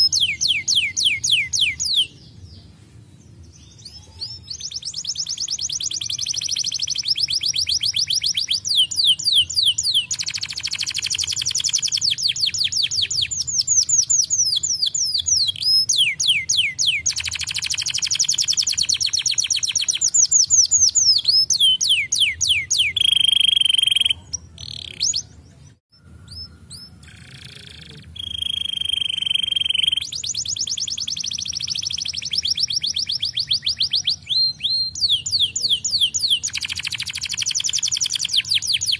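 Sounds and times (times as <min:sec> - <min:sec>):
canary held whistles: 0:00.0 - 0:02.1, 0:04.1 - 0:25.2, 0:26.0 - 0:38.9
canary singing trills: 0:00.0 - 0:38.9.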